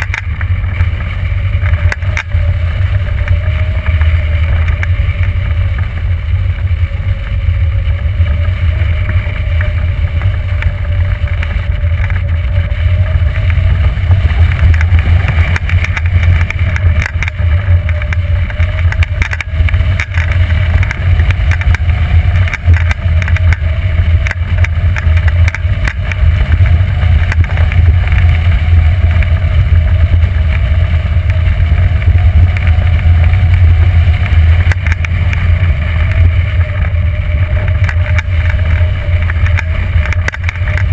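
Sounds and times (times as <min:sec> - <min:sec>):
crackles: 0:00.0 - 0:40.9
wind rumble on microphone: 0:00.0 - 0:40.9.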